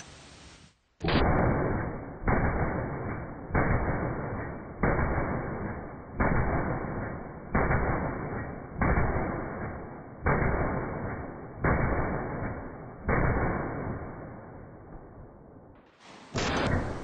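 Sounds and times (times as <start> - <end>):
shotgun shots: 1.0 - 14.4, 15.9 - 17.0.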